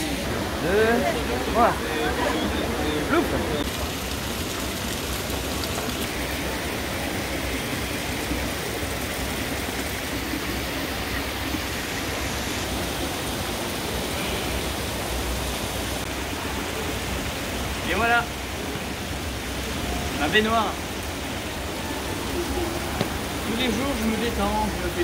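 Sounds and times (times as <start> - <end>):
fountain water cascading: 0.0 - 25.0.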